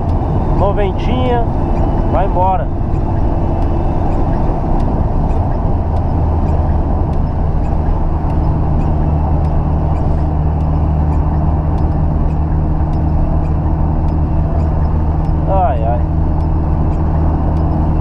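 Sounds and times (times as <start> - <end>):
car engine cruising hum: 0.0 - 18.0.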